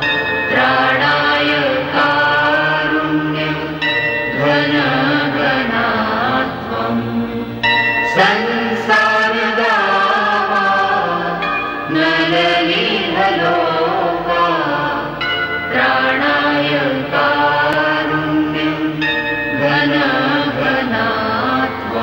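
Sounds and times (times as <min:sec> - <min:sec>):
voices singing a chant: 0:00.0 - 0:22.0.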